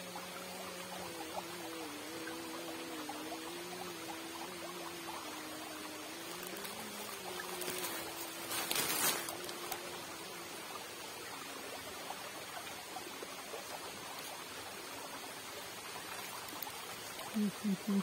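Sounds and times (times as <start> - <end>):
faint steady hum: 0.0 - 18.0
fast-flowing water in a channel: 0.0 - 18.0.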